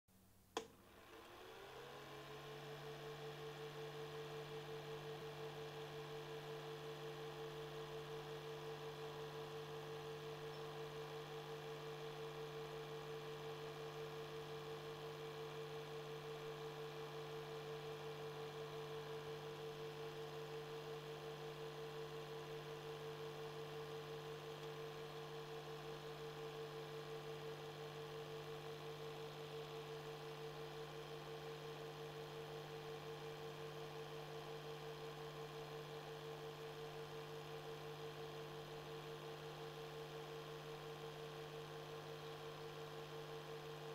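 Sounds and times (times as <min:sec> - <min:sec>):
film projector running: 0:00.6 - 0:43.9.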